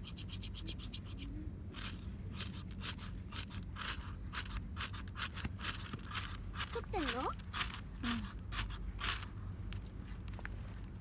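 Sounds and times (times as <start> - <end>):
rhythmic rasping scrapes: 0.0 - 9.3.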